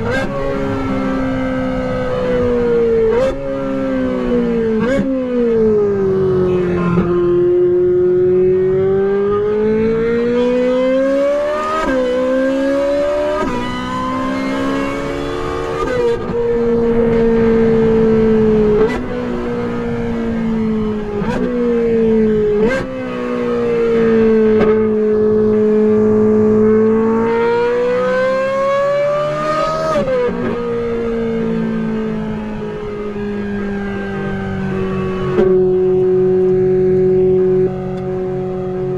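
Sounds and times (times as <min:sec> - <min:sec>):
car engine at full throttle: 0:00.0 - 0:38.9.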